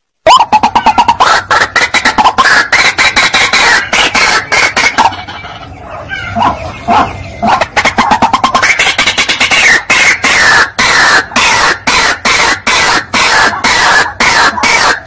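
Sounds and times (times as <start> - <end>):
bird harsh croaking calls: 0.2 - 15.0.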